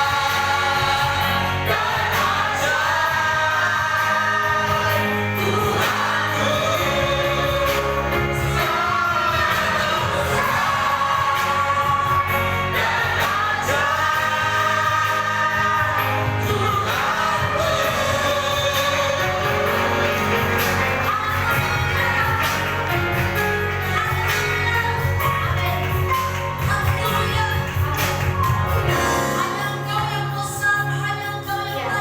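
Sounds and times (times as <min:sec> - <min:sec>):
drums keeping the beat: 0:00.0 - 0:29.3
band playing worship music: 0:00.0 - 0:32.0
people singing: 0:00.0 - 0:32.0.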